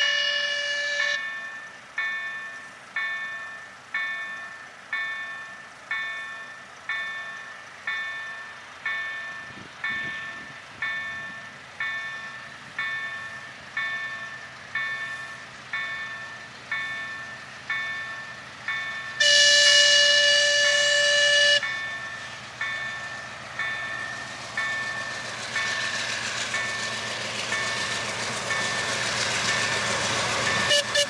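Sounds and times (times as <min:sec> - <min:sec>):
crossing warning bell ringing: 0:00.0 - 0:31.0.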